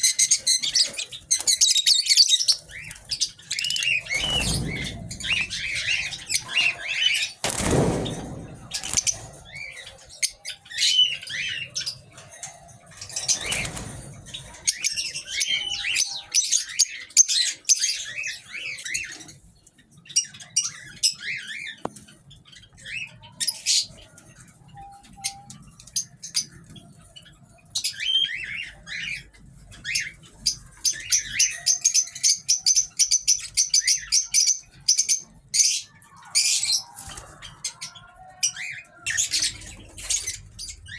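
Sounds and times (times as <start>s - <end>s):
small birds chirping and squawking: 0.0s - 40.9s.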